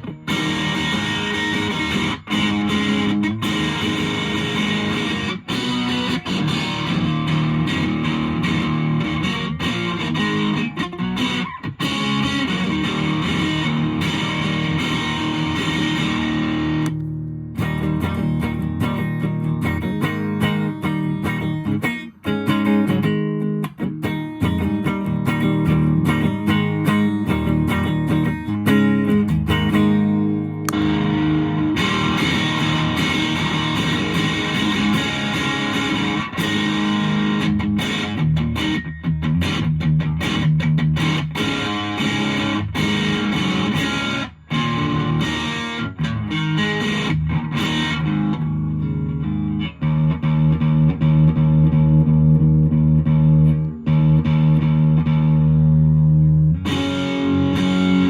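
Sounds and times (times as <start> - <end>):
distorted electric guitar: 0.0 - 58.0.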